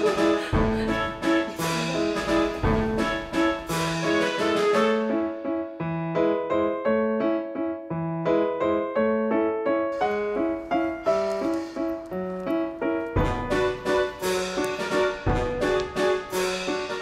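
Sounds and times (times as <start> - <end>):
piano playing light melody: 0.0 - 17.0.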